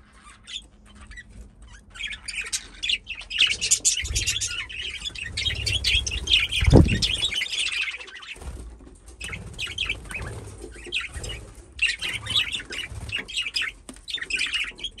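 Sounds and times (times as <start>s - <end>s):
budgerigars chirping: 0.1s - 8.4s, 9.2s - 15.0s.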